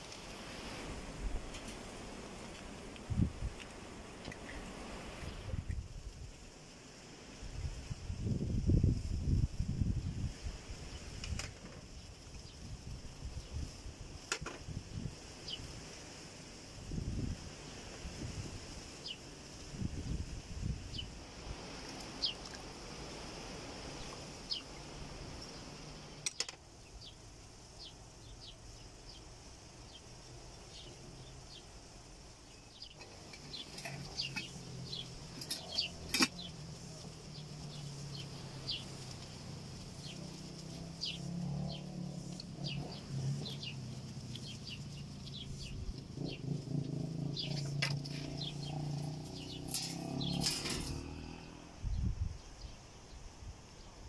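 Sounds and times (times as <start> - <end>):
small birds chirping: 7.7 - 15.8, 18.1 - 54.0.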